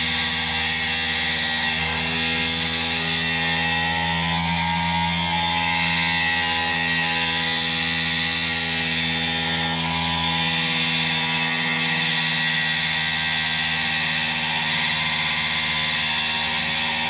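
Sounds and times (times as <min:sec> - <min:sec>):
rotary tool cutting metal: 0:00.0 - 0:17.0.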